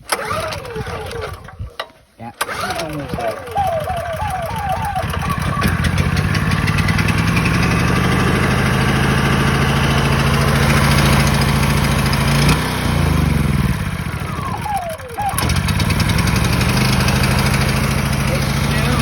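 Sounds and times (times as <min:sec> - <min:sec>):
portable generator engine running: 0:00.0 - 0:19.0.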